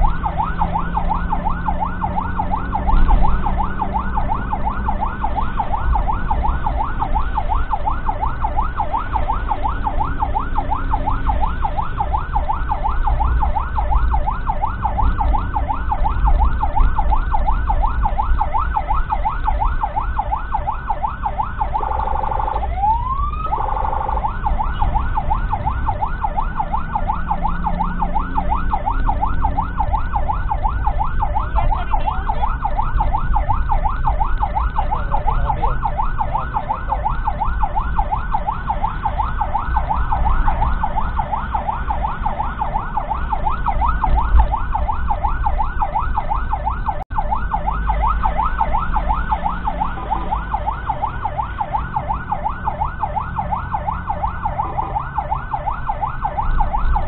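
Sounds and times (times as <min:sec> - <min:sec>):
ambulance siren yelping: 0:00.0 - 0:57.0
vehicle engine rumble and road noise: 0:00.0 - 0:57.0.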